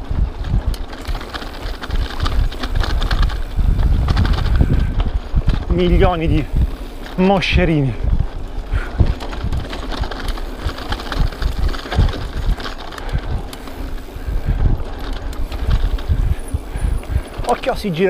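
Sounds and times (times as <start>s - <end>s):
bike rattling and knocking: 0.0s - 18.0s
bike tyres crunching on dirt: 0.0s - 18.0s.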